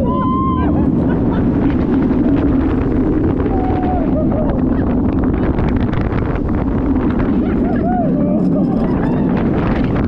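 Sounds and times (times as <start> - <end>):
roller coaster rumbling on track: 0.0 - 10.0
wind rushing over microphone: 0.0 - 10.0.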